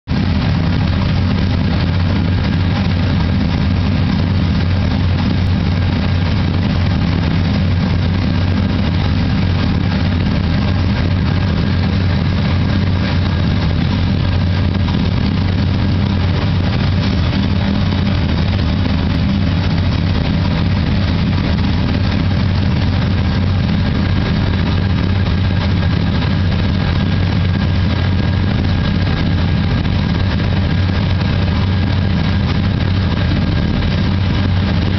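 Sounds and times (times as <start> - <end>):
model engine idle rumble: 0.1 - 34.9.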